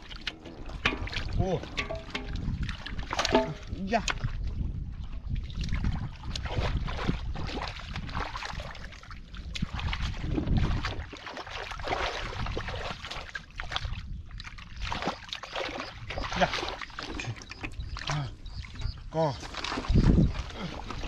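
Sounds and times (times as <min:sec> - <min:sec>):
hands sloshing in muddy water: 0:00.0 - 0:21.0.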